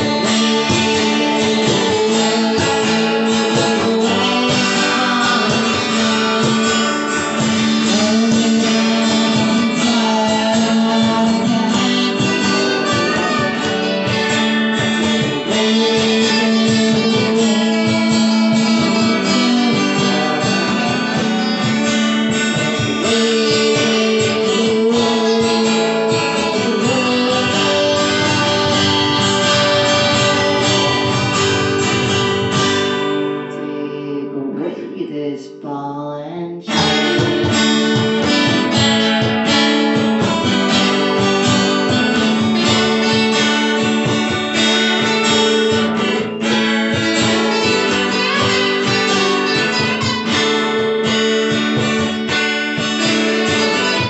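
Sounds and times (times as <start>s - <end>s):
acoustic guitars strumming: 0.0s - 54.0s.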